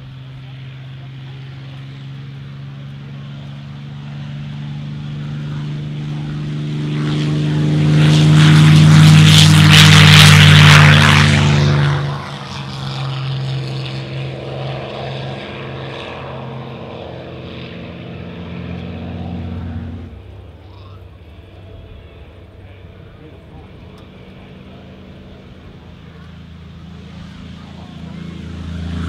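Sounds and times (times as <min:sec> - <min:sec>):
propeller aircraft engine roaring: 0:00.0 - 0:29.0.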